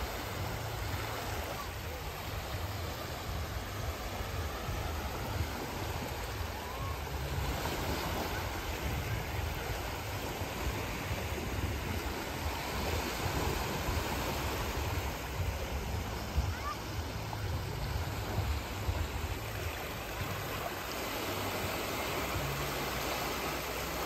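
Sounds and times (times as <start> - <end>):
waves washing up a sandy shore: 0.0 - 24.0.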